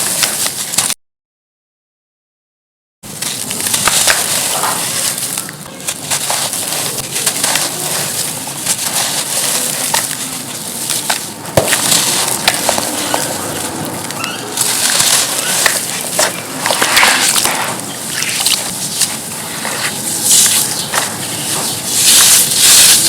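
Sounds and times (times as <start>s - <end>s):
charcoal being crushed: 0.0s - 1.0s, 3.1s - 23.0s.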